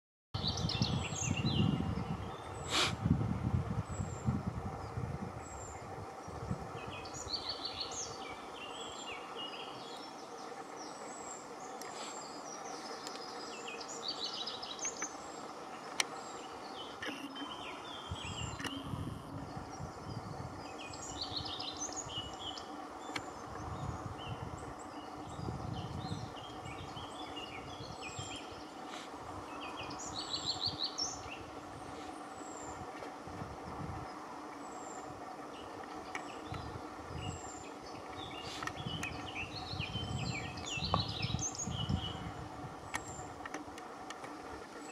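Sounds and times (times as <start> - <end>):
bird singing: 0.4 - 2.8, 3.8 - 33.0, 34.0 - 43.6
steady background hum: 0.4 - 44.9.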